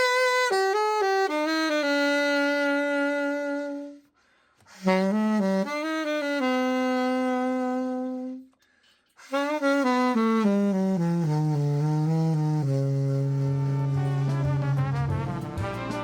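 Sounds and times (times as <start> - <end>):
alto saxophone playing: 0.0 - 16.0.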